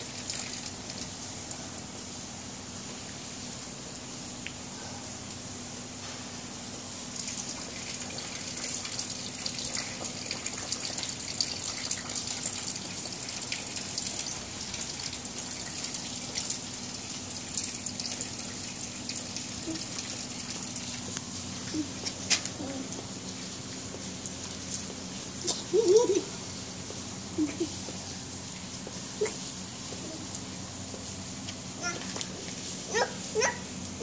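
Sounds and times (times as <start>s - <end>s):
rain on concrete: 0.0s - 34.0s.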